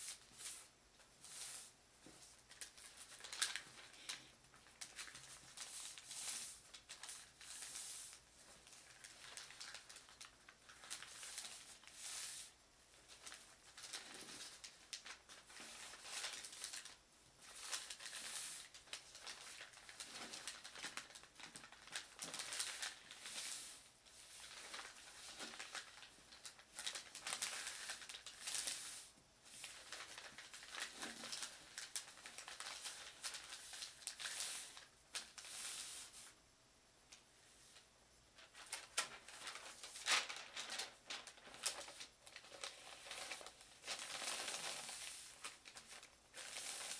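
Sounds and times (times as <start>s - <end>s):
wrapping paper rustling: 0.0s - 36.4s, 37.7s - 46.9s.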